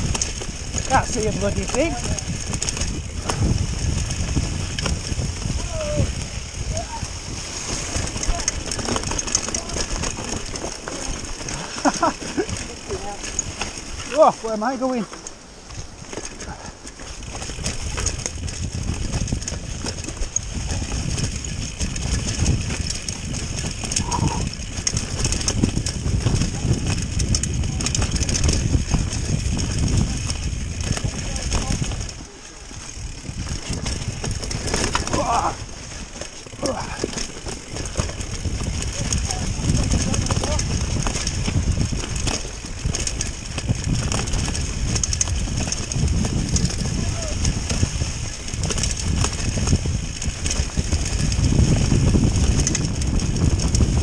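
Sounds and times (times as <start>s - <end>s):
wind on microphone: 0.0s - 15.0s, 15.6s - 54.0s
bike knocking and rattling: 0.0s - 54.0s
bike tyres rumbling on dirt: 0.0s - 54.0s.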